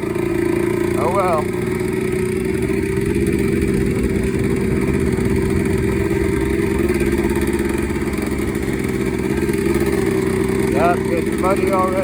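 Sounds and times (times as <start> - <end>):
two-stroke motorbike engine: 0.0 - 12.0.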